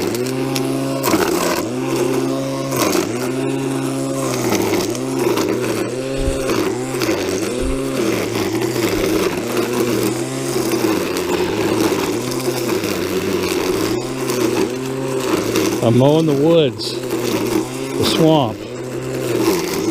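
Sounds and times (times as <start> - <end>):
gas engine brush cutter: 0.0 - 19.9.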